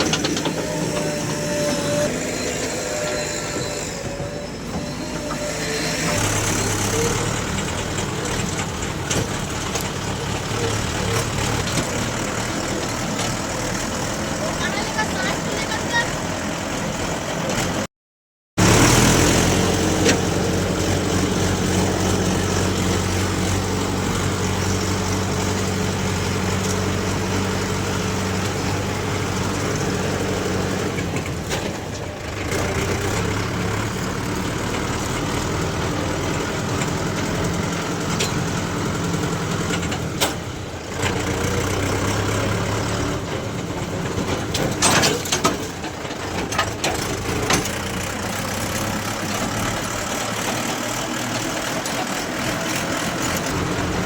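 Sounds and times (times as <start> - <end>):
diesel engines running: 0.0 - 17.9, 18.6 - 54.0.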